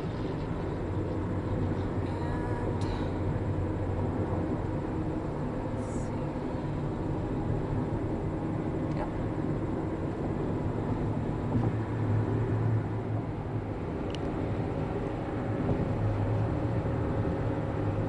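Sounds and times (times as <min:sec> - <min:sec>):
car engine noise: 0:00.0 - 0:18.0
tyres rumbling on road: 0:00.0 - 0:18.0.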